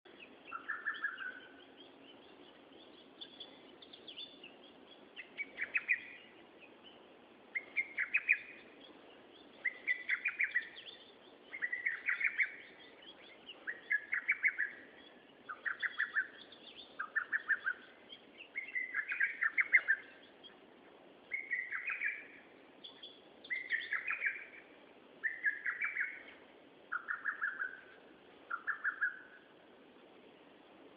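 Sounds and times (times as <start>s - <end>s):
songbird singing: 0.0s - 30.9s.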